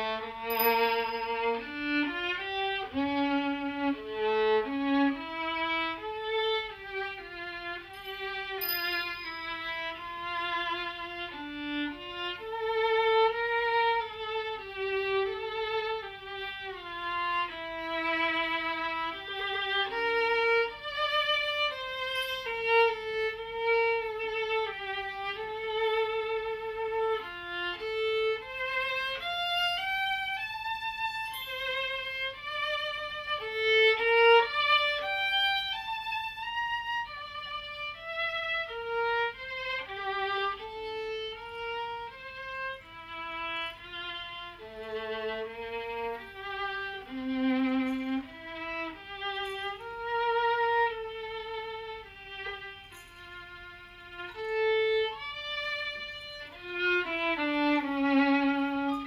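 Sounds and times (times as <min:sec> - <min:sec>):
solo violin melody: 0:00.0 - 0:59.0.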